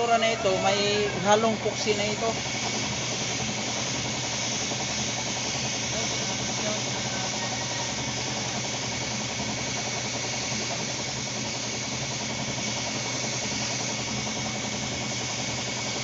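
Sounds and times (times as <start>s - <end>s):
air compressor humming: 0.0s - 16.0s
paint spray gun hissing: 0.0s - 16.0s.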